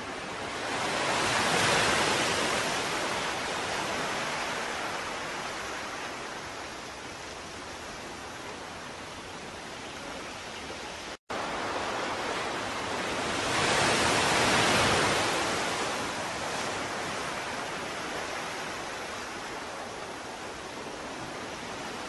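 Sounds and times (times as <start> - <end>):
ocean surf: 0.0 - 22.0.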